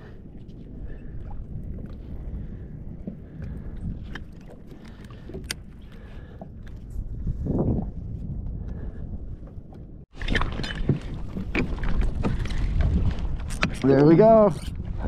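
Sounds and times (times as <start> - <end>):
water against kayak hull: 0.0 - 15.0
wind on microphone: 0.0 - 15.0.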